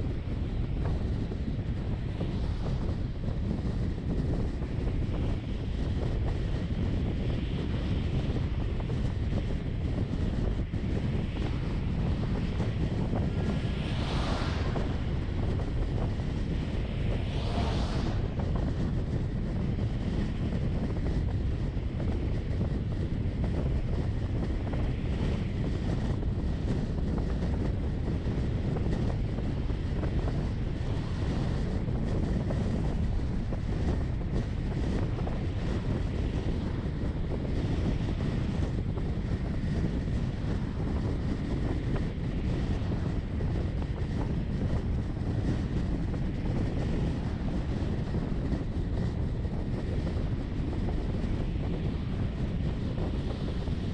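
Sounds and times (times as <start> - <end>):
vehicle road noise rumble: 0.0 - 53.9
wind buffeting microphone: 0.0 - 53.9.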